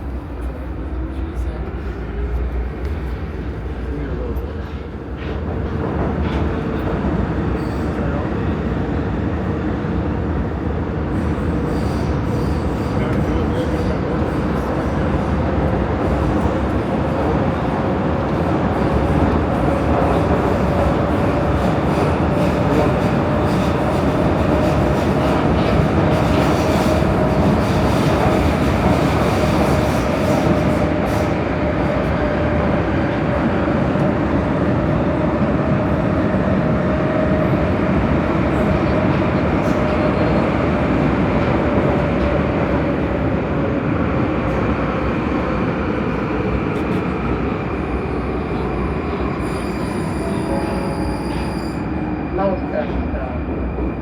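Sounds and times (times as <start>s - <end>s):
train whine: 0.0s - 54.0s.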